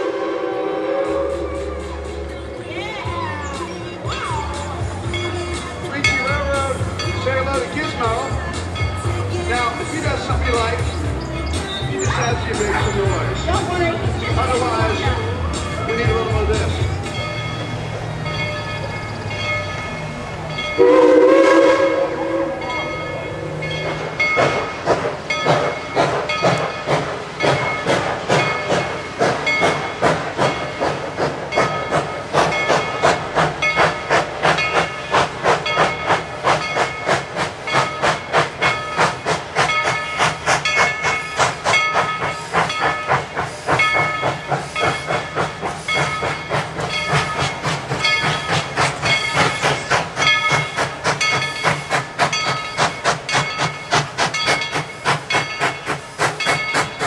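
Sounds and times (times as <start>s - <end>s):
steam locomotive exhaust chuffing: 0.0s - 2.8s, 3.5s - 57.0s
hiss of steam: 4.6s - 57.0s.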